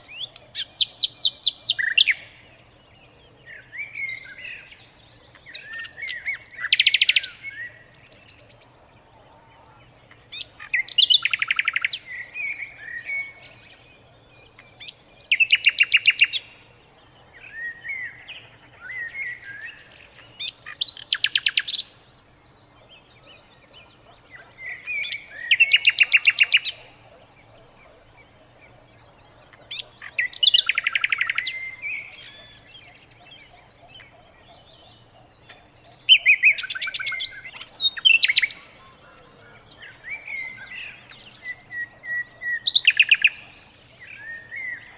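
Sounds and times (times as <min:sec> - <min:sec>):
soft bird chirps: 0:00.0 - 0:44.9
songbird trilling: 0:00.0 - 0:44.9.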